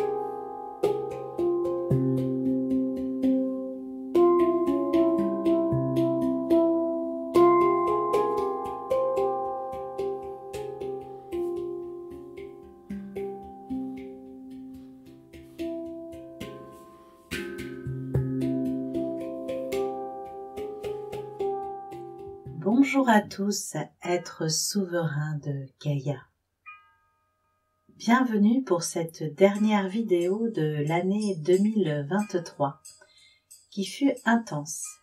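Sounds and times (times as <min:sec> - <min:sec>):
calm instrumental music: 0:00.0 - 0:23.5, 0:26.6 - 0:35.0.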